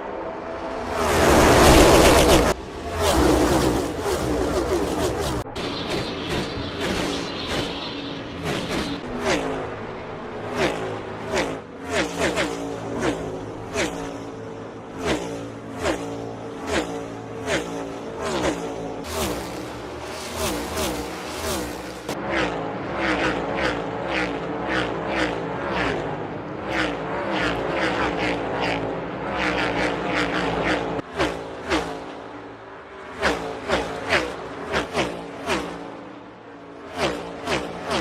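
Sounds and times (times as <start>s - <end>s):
race car engines passing by: 0.0s - 38.0s.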